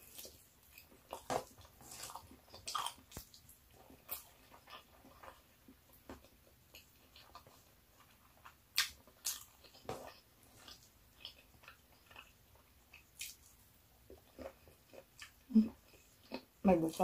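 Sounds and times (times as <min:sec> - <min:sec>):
wet chewing smacks and clicks: 0:00.0 - 0:16.5.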